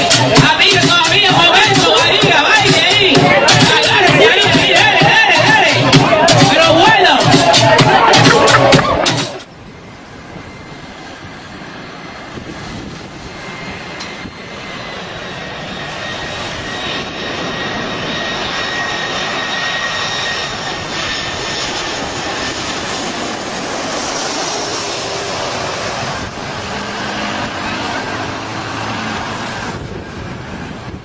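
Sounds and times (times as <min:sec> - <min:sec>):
jet engines rushing and whining: 0:00.0 - 0:31.0.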